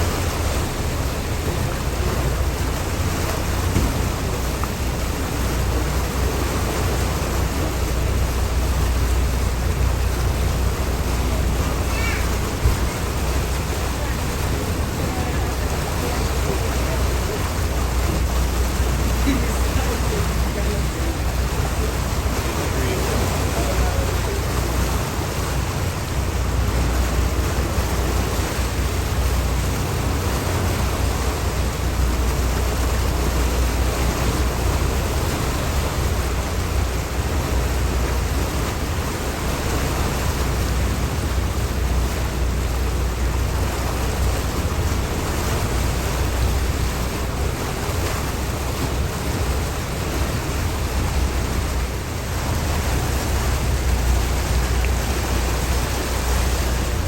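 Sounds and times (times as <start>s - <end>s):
low rumble: 0.0s - 57.0s
water rushing: 0.0s - 57.0s.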